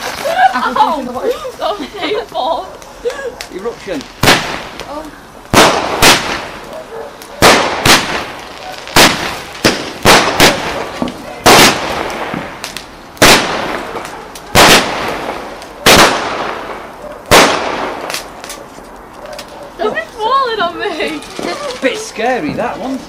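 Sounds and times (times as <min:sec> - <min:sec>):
firework hiss: 0:00.0 - 0:18.6
firework bangs: 0:00.0 - 0:22.8.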